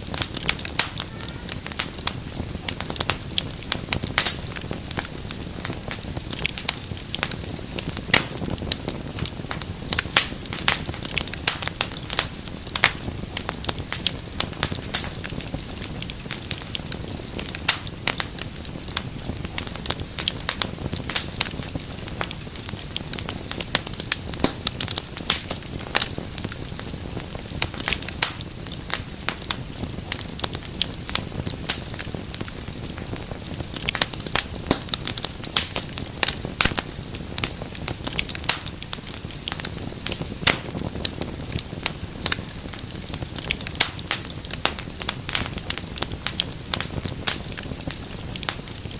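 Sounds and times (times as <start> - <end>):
fire crackling pops and snaps: 0.0 - 48.9
low rumble of flames: 0.0 - 48.9.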